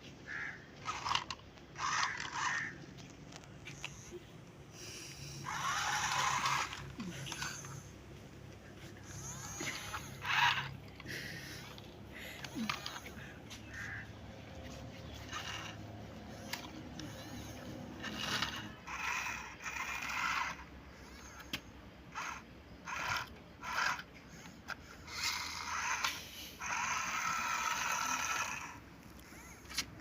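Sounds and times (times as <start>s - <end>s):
toy gear mechanism whirring: 0.3s - 30.0s.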